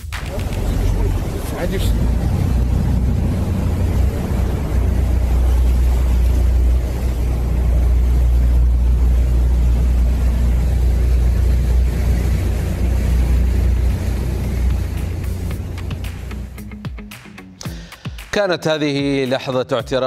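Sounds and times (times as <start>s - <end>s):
water rushing around hull: 0.0s - 17.0s
boat engine rumbling: 0.0s - 17.6s.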